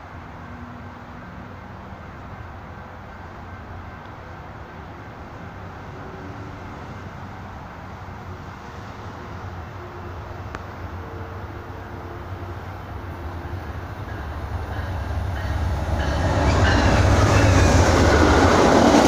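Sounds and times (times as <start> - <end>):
train rumbling: 0.1 - 19.0.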